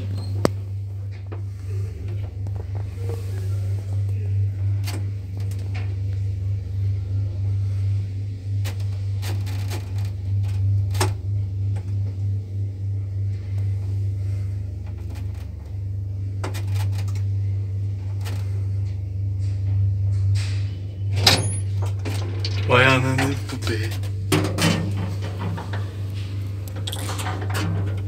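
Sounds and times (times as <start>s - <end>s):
elevator low hum: 0.0s - 28.0s.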